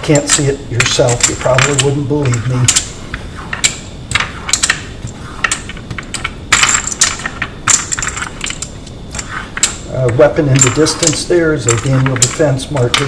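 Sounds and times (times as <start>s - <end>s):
cartridges clicking on wood: 0.0s - 13.0s
metal cartridges clinking: 0.0s - 13.0s.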